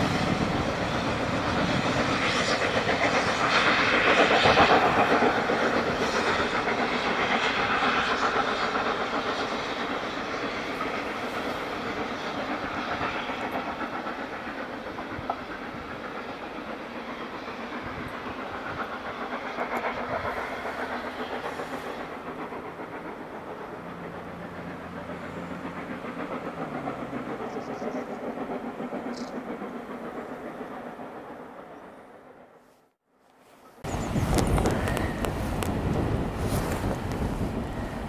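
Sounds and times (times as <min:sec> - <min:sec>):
wind buffeting microphone: 0:00.0 - 0:31.5, 0:33.8 - 0:38.0
train running: 0:00.0 - 0:32.8, 0:33.4 - 0:38.0.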